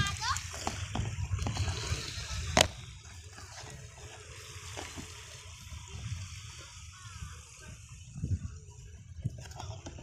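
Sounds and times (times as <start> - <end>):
hiss with low rumble: 0.8 - 9.6.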